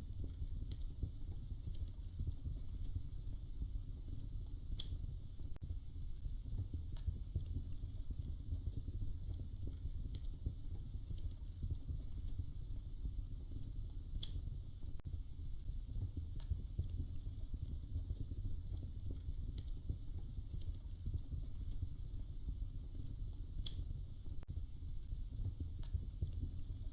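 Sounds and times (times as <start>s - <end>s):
fire popping: 0.0s - 26.9s
wood fire crackling: 0.0s - 26.9s.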